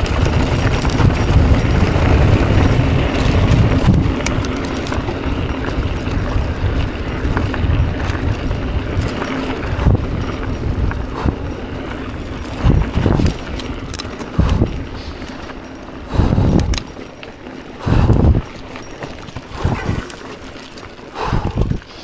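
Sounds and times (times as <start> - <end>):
bike chain and frame rattling: 0.0 - 22.0
bike tyres crunching over dirt: 0.0 - 22.0
wind buffeting microphone: 0.0 - 22.0.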